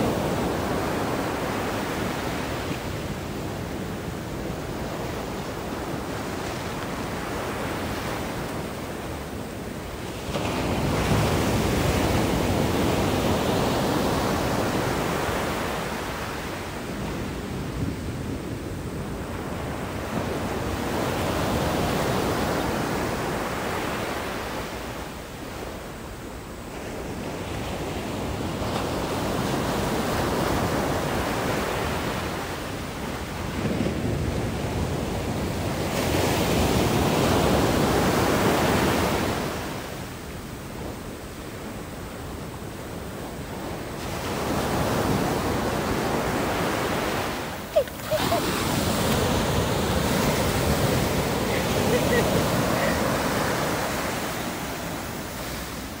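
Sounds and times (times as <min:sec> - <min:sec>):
ocean surf on sand beach: 0:00.0 - 0:56.0.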